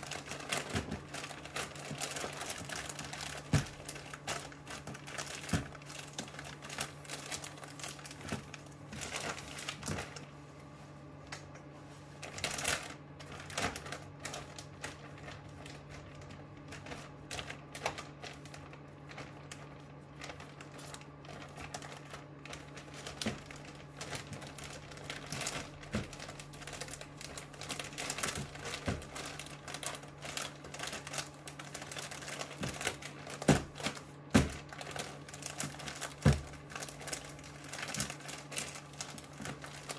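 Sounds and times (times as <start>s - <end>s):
plastic bag crinkling: 0.0s - 39.9s
steady low hum: 0.0s - 39.9s.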